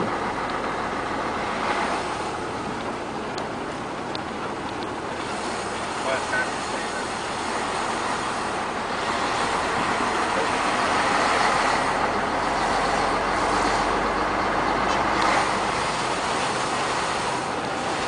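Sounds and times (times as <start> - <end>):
heavy truck driving past: 0.0 - 18.0.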